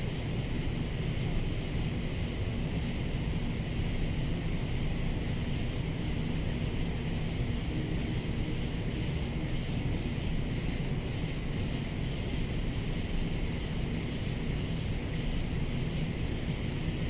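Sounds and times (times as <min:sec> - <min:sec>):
cicadas singing: 0:00.0 - 0:17.0
constant low rumble: 0:00.0 - 0:17.0.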